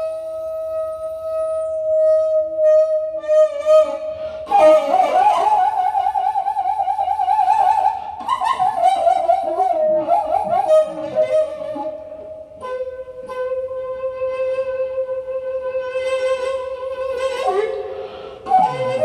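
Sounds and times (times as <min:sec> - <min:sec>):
bamboo flute with vibrato: 0:00.0 - 0:19.0.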